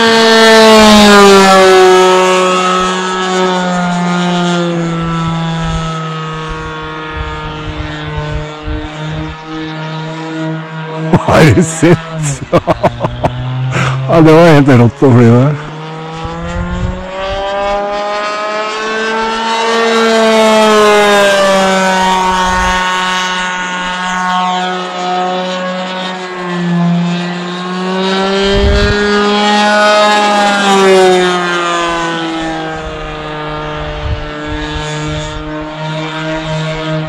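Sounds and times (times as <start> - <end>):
model airplane motor droning: 0.0 - 37.0.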